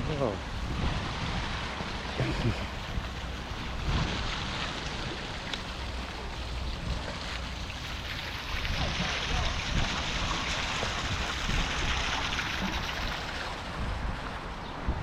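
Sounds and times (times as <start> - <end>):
wind gusting over microphone: 0.0 - 15.0.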